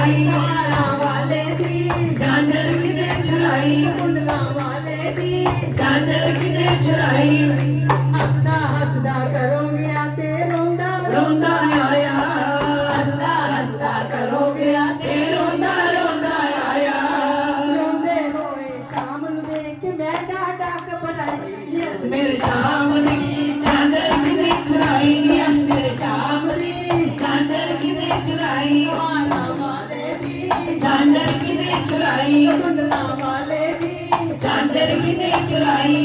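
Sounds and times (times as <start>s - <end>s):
rhythmic hand-clapping: 0.0s - 36.0s
women singing into microphones: 0.0s - 36.0s.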